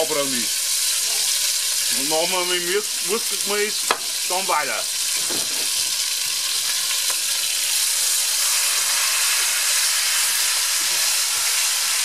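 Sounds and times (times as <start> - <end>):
meat sizzling in hot fat: 0.0 - 12.0.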